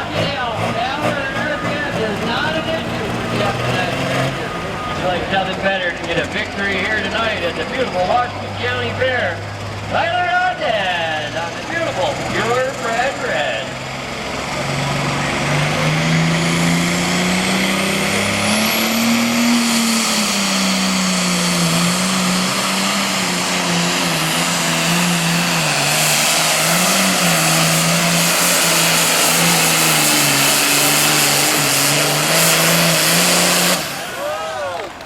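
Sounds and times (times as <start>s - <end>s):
diesel tractor engine under load: 0.0s - 35.0s.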